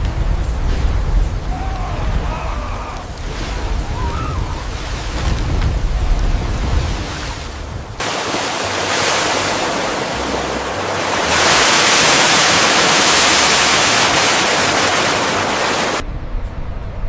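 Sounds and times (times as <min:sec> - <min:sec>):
sea water and surf rushing: 0:00.0 - 0:16.0.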